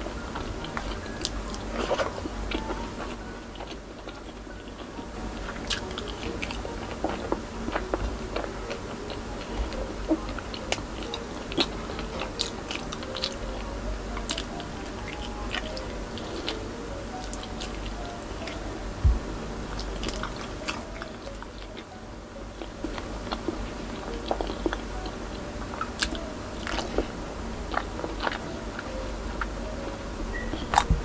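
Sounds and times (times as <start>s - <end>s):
person chewing with wet smacks: 0.0s - 18.6s, 19.7s - 21.9s, 22.6s - 29.5s, 30.3s - 31.0s.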